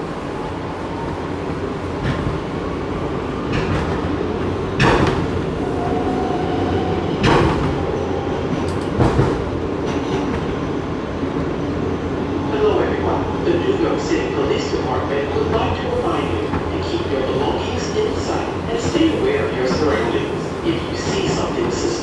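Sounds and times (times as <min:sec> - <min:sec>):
subway car rumble: 0:00.0 - 0:22.0.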